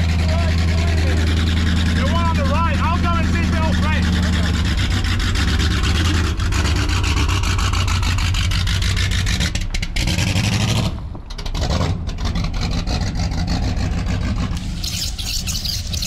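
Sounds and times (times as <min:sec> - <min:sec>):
race car engine pulsing exhaust: 0:00.0 - 0:16.0.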